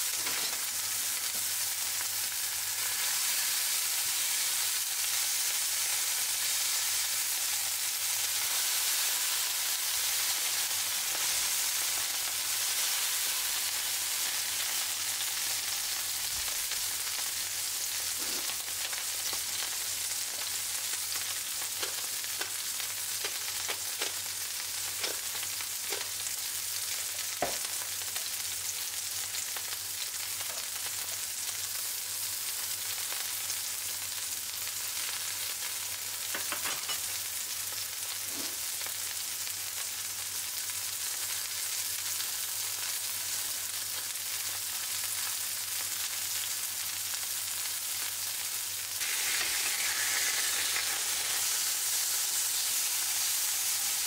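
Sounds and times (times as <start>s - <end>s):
patties sizzling in a frying pan: 0.0s - 54.0s.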